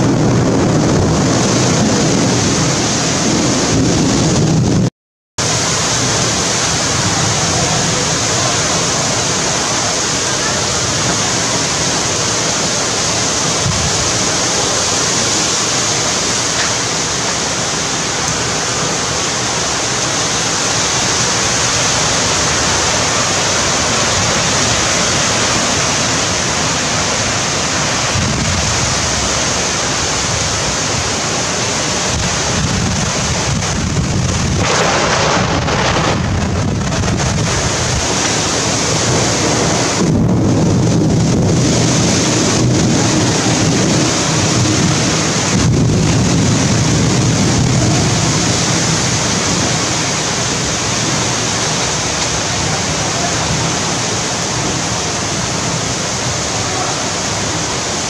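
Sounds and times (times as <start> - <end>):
wind buffeting microphone: 0.0 - 4.9, 5.7 - 56.2
heavy rain pouring: 0.0 - 58.0.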